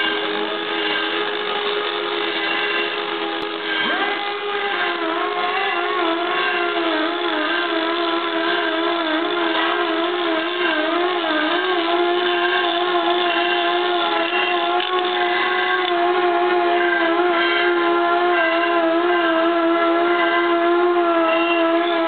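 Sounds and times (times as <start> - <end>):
grinder whining on metal: 0.0 - 22.0.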